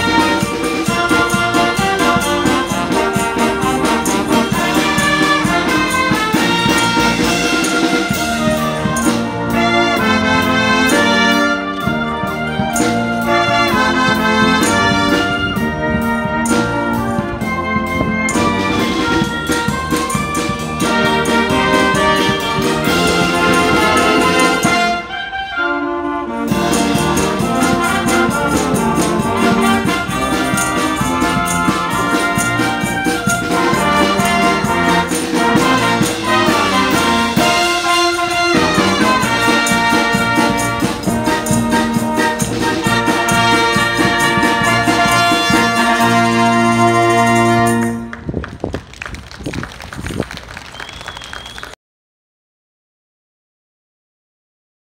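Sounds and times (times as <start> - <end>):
wind band playing: 0.0 - 51.8.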